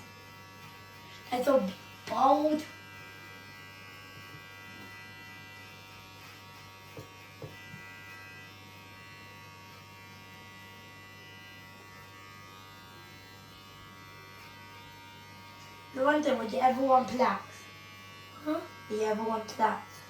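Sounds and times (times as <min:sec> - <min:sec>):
electric hair clippers buzzing: 0:00.0 - 0:20.0.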